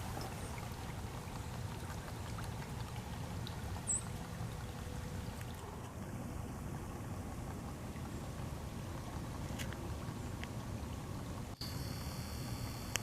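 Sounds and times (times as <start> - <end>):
water trickling and sloshing: 0.0 - 12.8
low steady rumble: 0.0 - 13.0.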